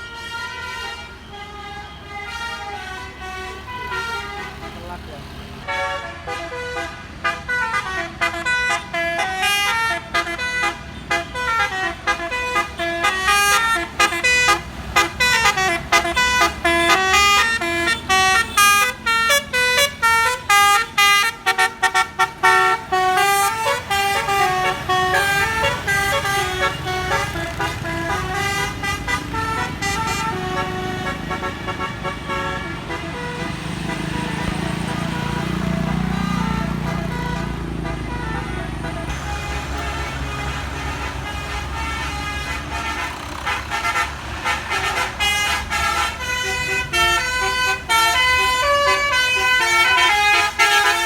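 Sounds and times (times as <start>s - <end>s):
bus engine running: 0.0s - 51.0s
multi-tone bus horn melody: 0.0s - 51.0s.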